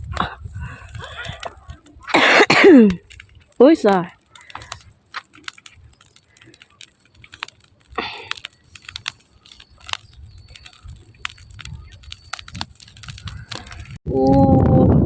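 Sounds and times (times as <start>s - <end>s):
dry grass fire crackling: 0.0s - 15.0s.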